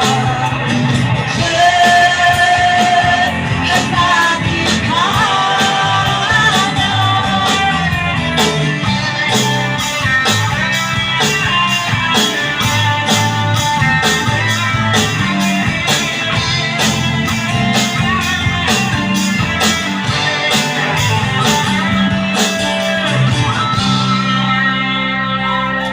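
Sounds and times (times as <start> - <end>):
bass guitar: 0.0 - 25.9
drums with cymbal beat: 0.0 - 25.9
electric guitar: 0.0 - 25.9.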